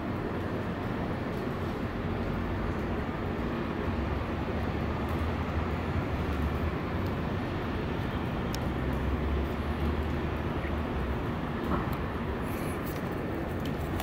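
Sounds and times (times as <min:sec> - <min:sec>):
urban background rumble: 0:00.0 - 0:14.0.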